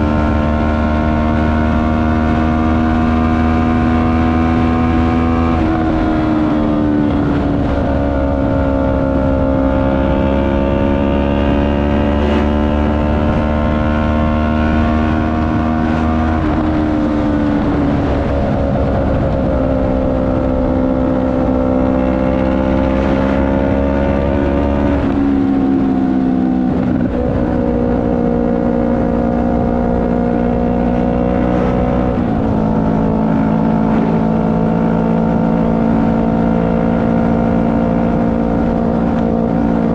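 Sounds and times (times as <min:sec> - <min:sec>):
motorcycle engine changing gears: 0:00.0 - 0:39.9.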